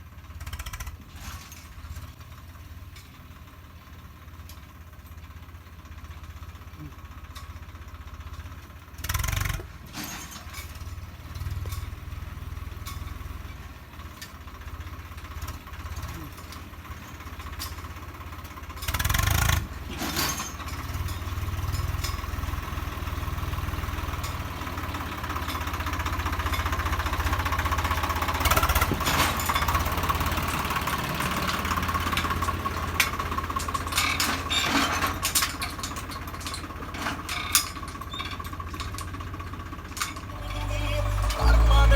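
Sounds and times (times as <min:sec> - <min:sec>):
tractor diesel engine knocking: 0:01.8 - 0:09.8, 0:10.8 - 0:41.9.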